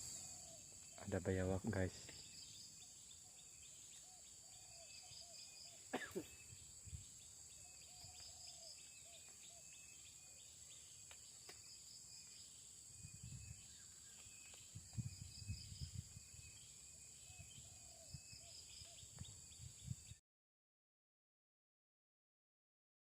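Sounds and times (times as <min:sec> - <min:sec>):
insect chorus chirping: 0:00.0 - 0:20.1.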